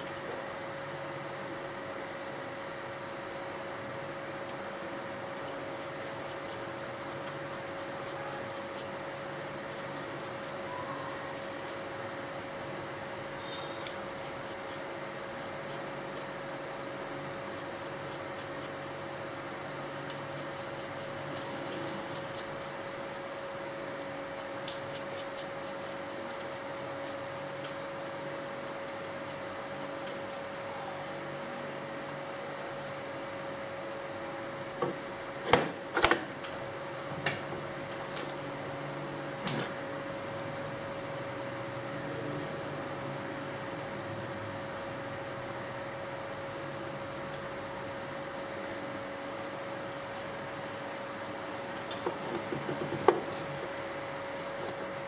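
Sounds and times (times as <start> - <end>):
constant hum: 0.0 - 55.0.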